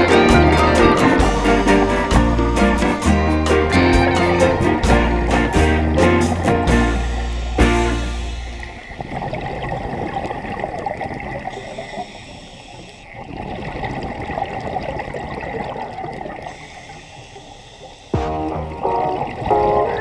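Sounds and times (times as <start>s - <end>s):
underwater water rushing: 0.0s - 20.0s.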